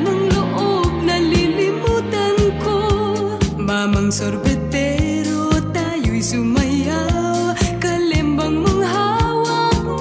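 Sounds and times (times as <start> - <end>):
pop song with steady beat: 0.0 - 10.0.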